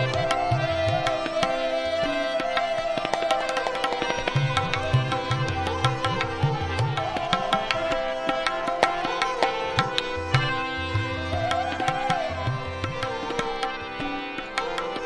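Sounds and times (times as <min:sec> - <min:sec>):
tabla playing rhythm: 0:00.0 - 0:15.0.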